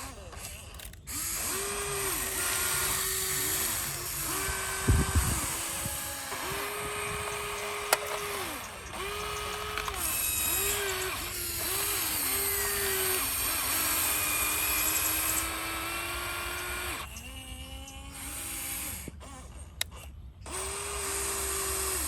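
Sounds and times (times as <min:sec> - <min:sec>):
small electric motors whining: 0:00.0 - 0:22.0.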